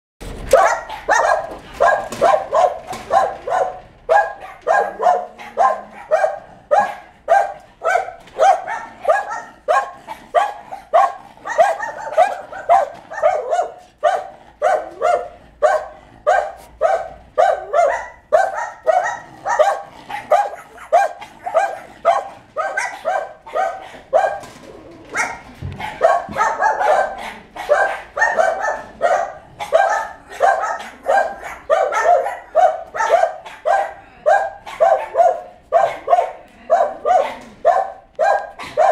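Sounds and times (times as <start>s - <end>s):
dogs barking: 0.3s - 38.9s.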